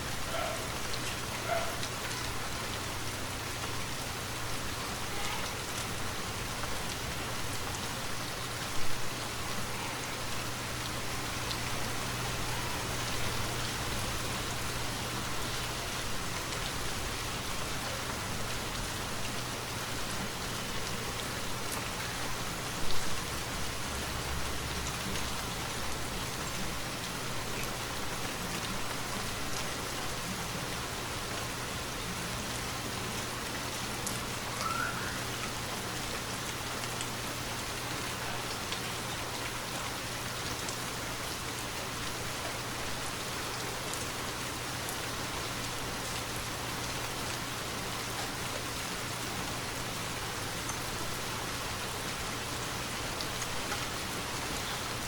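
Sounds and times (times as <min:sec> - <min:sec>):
raindrops pattering: 0:00.0 - 0:55.0
steady rainfall: 0:00.0 - 0:55.0.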